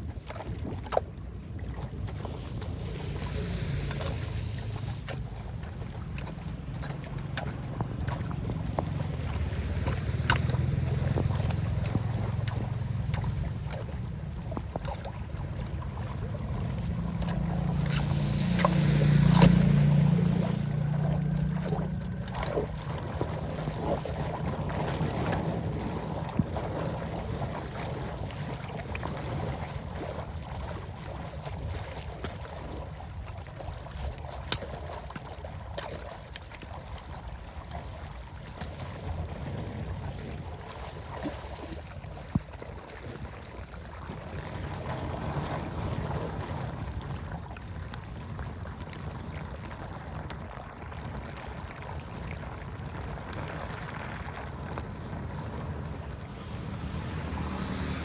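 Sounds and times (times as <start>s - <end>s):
wind buffeting microphone: 0.0s - 32.0s, 41.8s - 58.0s
water rushing: 0.0s - 58.0s.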